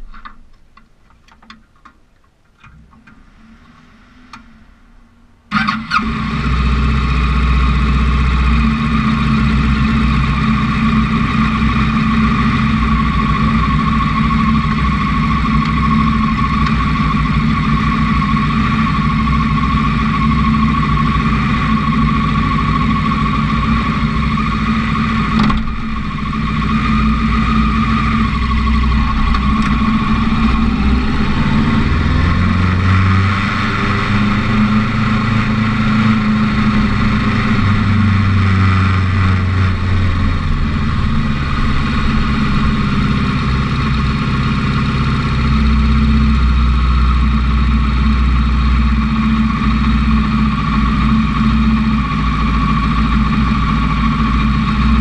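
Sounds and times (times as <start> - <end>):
race car engine running: 2.8 - 55.0.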